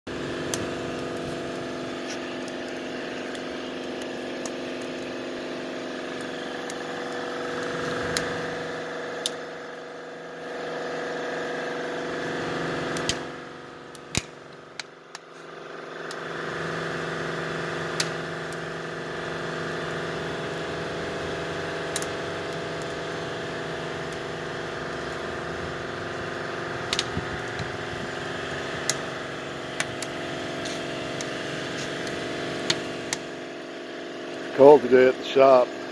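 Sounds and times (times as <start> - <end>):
engine humming: 0.1 - 34.6
fire crackling in a drum: 0.1 - 34.6.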